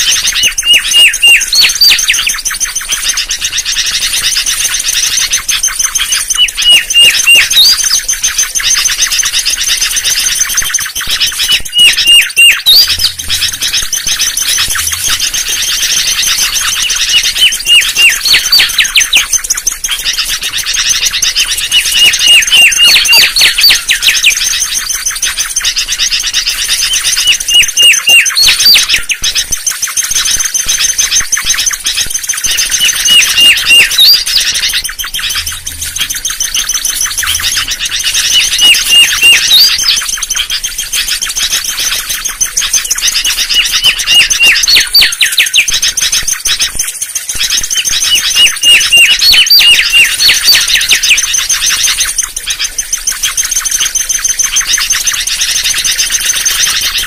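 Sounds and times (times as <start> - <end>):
bird whistling song: 0.0 - 57.0
high twittering: 0.0 - 57.0.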